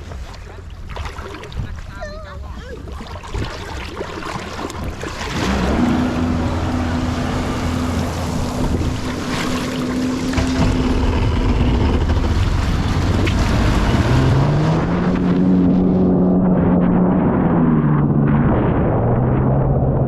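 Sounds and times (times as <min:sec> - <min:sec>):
water rushing: 0:00.0 - 0:17.0
jet ski engine running: 0:00.0 - 0:20.0
wind buffeting microphone: 0:01.4 - 0:20.0.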